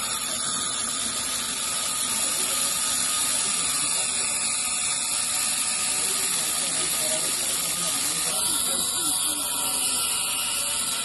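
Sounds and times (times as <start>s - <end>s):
angle grinder cutting metal: 0.0s - 11.0s.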